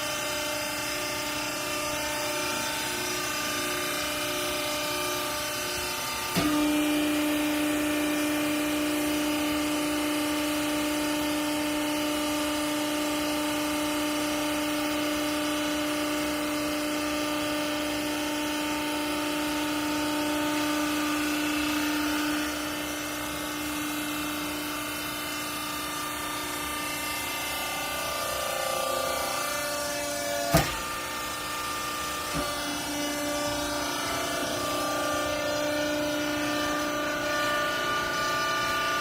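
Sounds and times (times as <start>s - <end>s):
electric motor and hydraulic pump whine: 0.0s - 39.0s.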